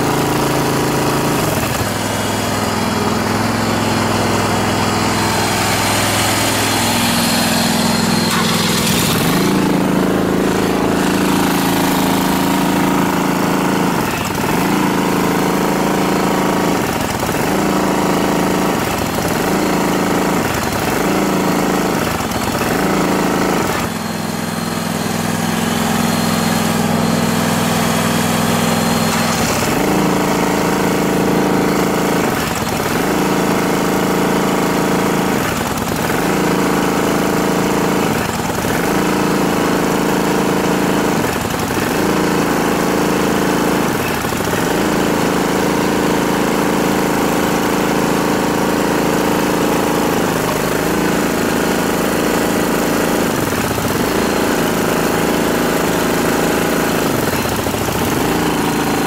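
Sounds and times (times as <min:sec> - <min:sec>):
engine running fast: 0:00.0 - 0:59.0.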